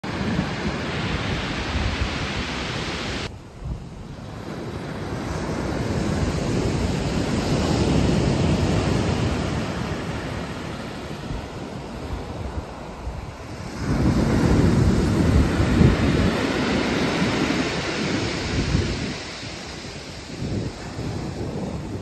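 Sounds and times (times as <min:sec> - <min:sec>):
waves on a pebble beach: 0:00.0 - 0:22.0.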